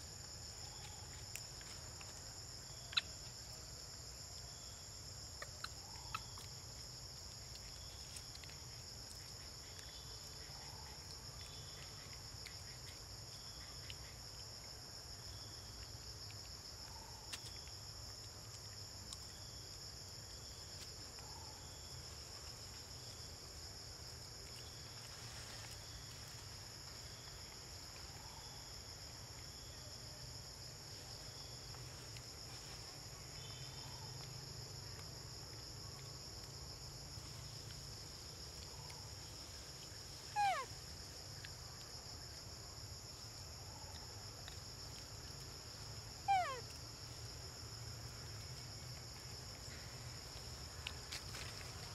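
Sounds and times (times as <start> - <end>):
insects droning: 0.0 - 51.9.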